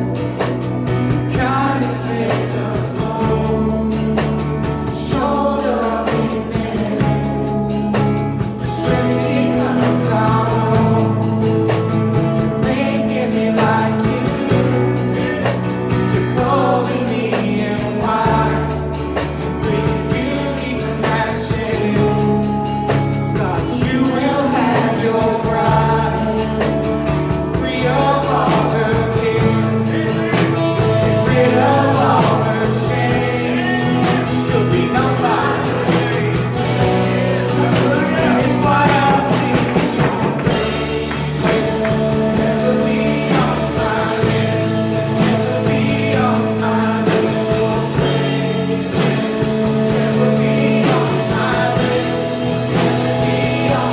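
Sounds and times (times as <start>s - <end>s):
drum kit beat: 0.0s - 53.9s
voices singing: 0.0s - 53.9s
worship band playing gospel: 0.0s - 53.9s.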